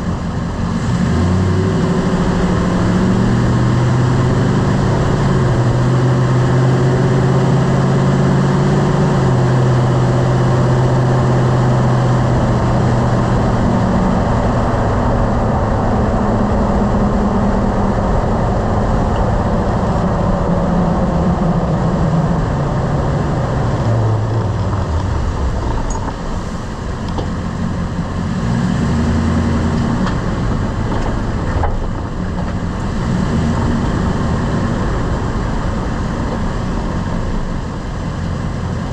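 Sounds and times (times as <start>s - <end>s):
road noise: 0.0s - 38.9s
truck engine hum: 0.0s - 38.9s.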